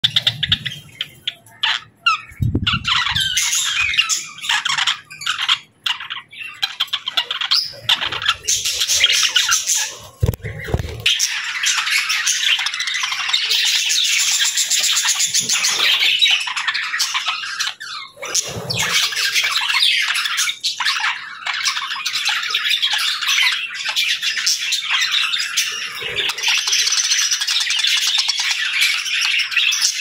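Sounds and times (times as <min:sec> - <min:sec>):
budgerigars chirping and squawking: 0:00.0 - 0:30.0.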